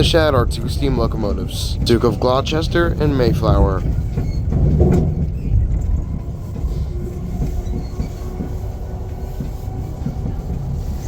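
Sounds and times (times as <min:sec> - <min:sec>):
low knocks: 0:00.0 - 0:11.0
train wheels rumbling on track: 0:00.0 - 0:11.0.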